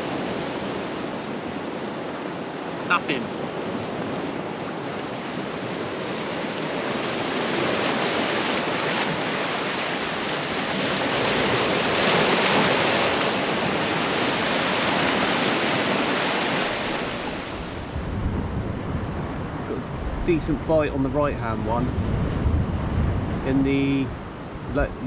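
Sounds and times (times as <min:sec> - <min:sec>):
sea waves breaking over rocks: 0:00.0 - 0:02.1, 0:02.8 - 0:25.0.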